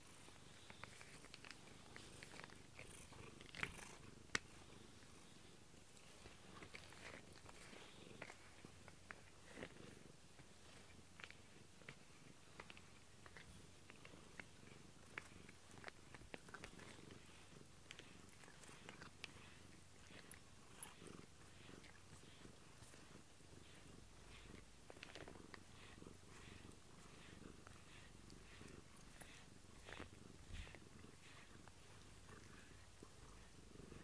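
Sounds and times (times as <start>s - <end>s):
cat purring: 0.0s - 34.0s
cat licking and clicking: 0.2s - 34.0s.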